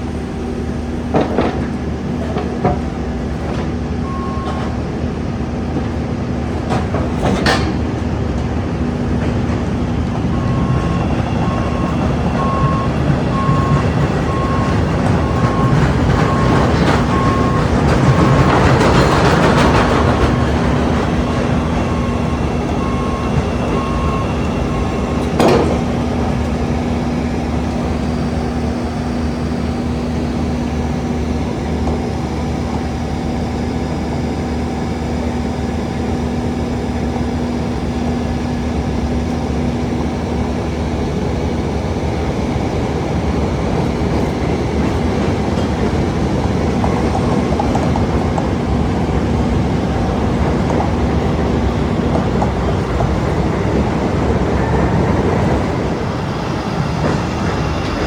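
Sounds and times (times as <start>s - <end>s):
construction machinery humming: 0.0s - 58.0s
elevated train on steel structure: 0.0s - 58.0s.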